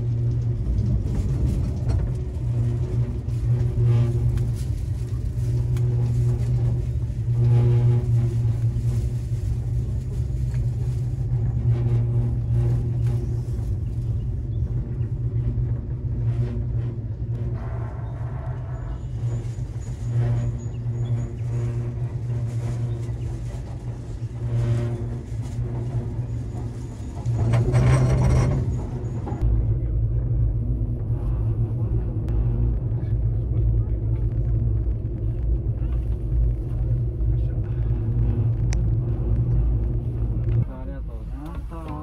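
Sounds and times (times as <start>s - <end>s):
gondola cabin rumble and hum: 0.0s - 42.0s.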